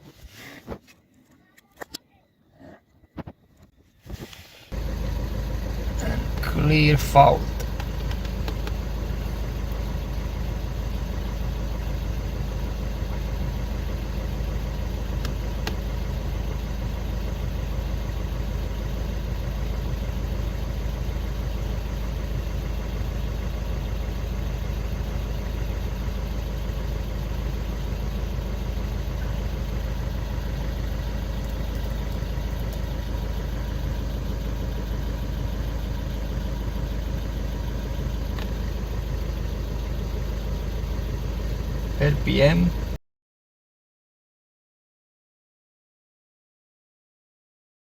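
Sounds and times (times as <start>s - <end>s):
car engine idling: 4.4s - 43.0s.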